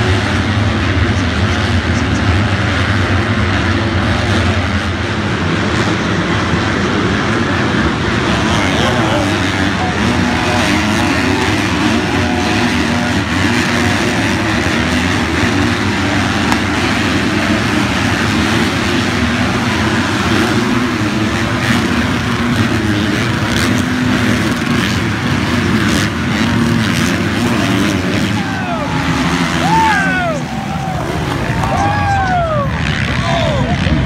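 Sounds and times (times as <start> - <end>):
motorcycle engines racing: 0.0 - 34.0.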